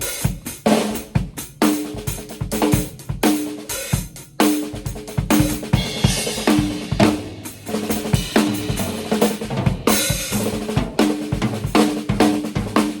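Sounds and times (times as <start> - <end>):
drum kit groove: 0.0 - 13.0.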